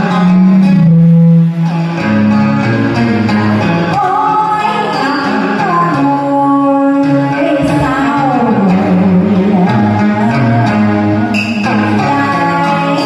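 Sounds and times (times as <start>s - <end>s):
person singing into microphone: 0.0s - 1.9s, 3.8s - 13.0s
guitar accompaniment: 0.0s - 13.0s.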